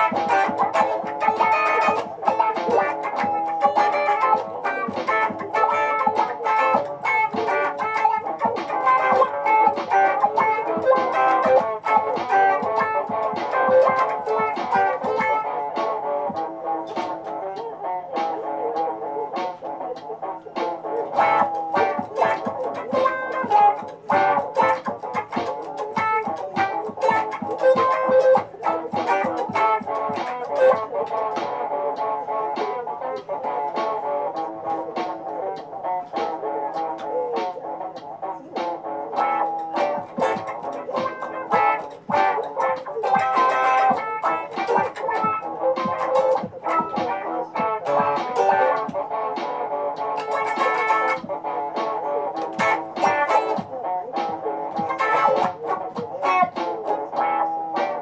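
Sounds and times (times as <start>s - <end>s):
electric guitar loops: 0.0s - 58.0s.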